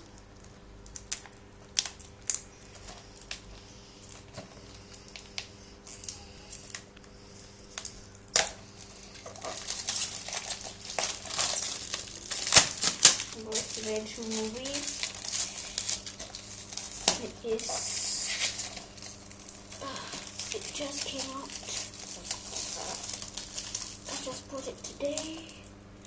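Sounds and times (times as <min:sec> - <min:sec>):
plastic packaging crinkling: 0:00.0 - 0:26.0.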